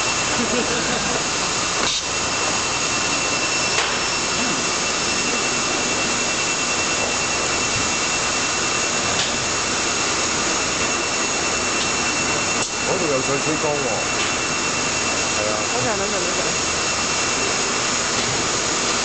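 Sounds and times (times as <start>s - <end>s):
machine hiss: 0.0s - 19.0s
thin high whine: 0.0s - 19.0s.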